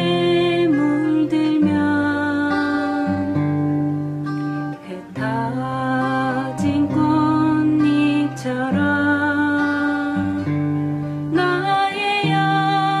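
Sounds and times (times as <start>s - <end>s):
acoustic guitar: 0.0s - 13.0s.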